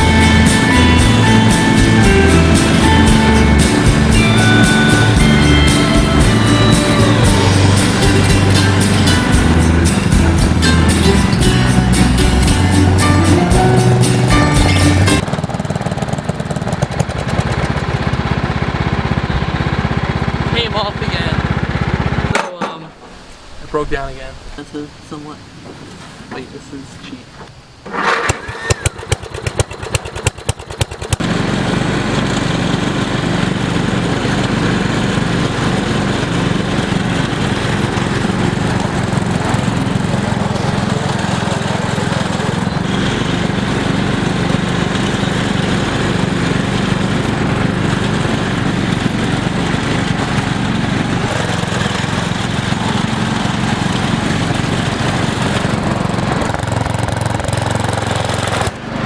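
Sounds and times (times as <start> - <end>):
lawn tractor engine running: 0.0 - 23.1, 27.5 - 59.0.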